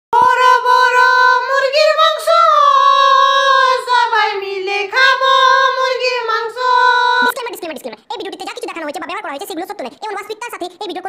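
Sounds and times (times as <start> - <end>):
high-pitched voice singing: 0.2 - 11.0.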